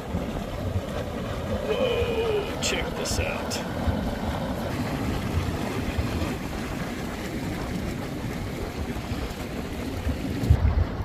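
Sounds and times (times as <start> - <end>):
mud bubbling: 0.0 - 11.0
wind on microphone: 0.0 - 11.0.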